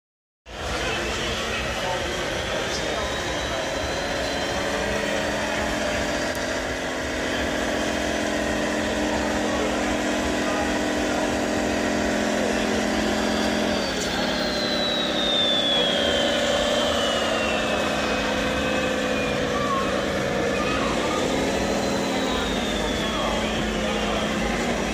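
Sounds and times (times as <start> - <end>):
high whine: 0.5 - 24.9
model truck diesel engine sound: 0.5 - 24.9.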